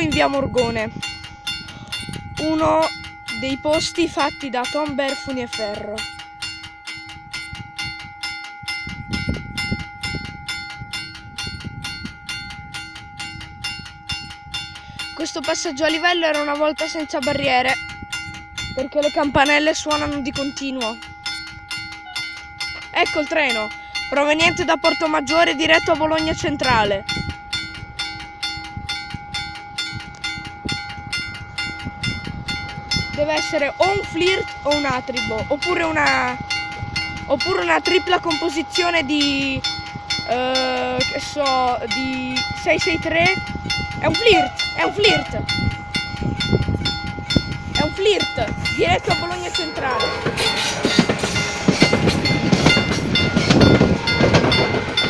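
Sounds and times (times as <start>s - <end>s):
electric warning bell ringing: 0.0s - 55.0s.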